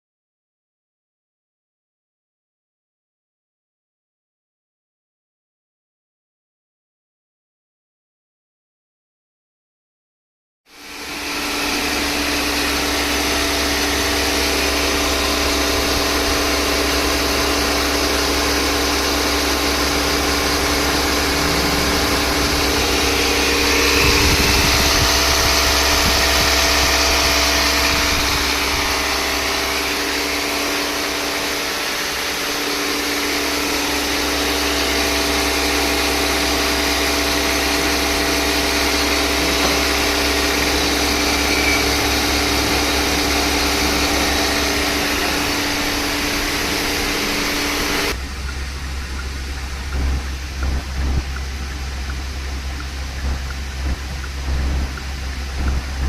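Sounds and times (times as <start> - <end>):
diesel engine running: 10.8 - 56.0.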